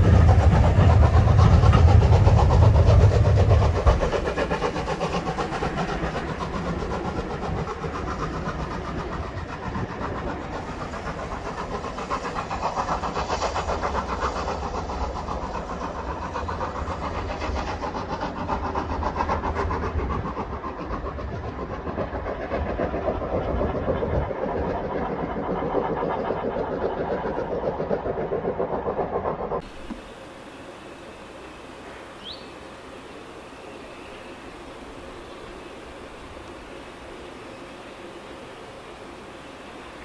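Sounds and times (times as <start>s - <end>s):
locomotive pulsing under power: 0.0s - 40.0s.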